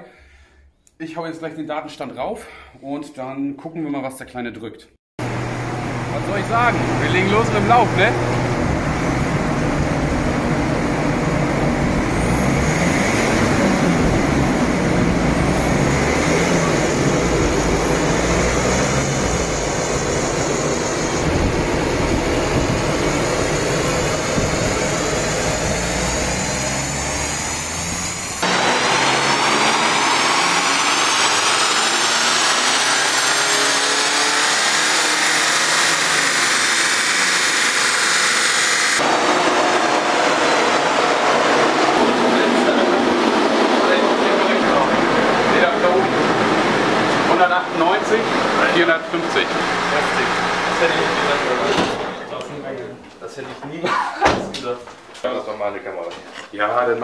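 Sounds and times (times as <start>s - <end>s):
diesel engine under load: 5.2s - 52.4s
engine whine rising in pitch: 5.2s - 52.4s.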